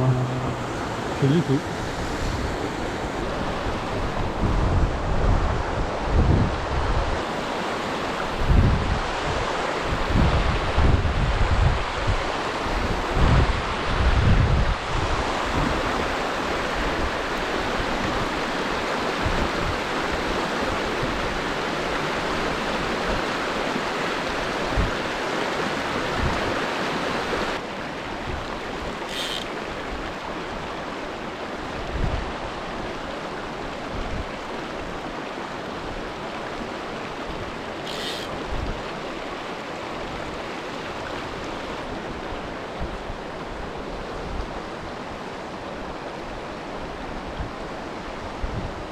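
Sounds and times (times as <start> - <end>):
water rushing over rocks: 0.0 - 48.9.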